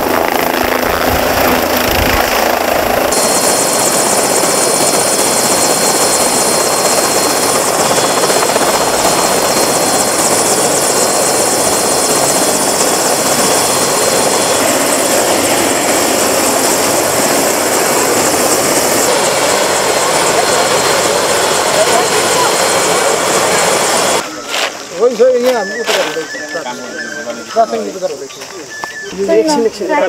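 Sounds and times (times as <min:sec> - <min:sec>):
helicopter rotor and engine: 0:00.0 - 0:30.0
high-pitched turbine whine: 0:00.0 - 0:30.0.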